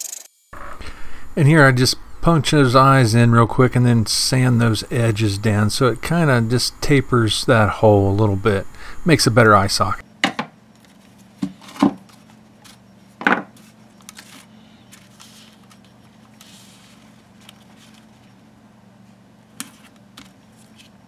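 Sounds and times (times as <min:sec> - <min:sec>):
faint steady hum: 0:00.5 - 0:21.0.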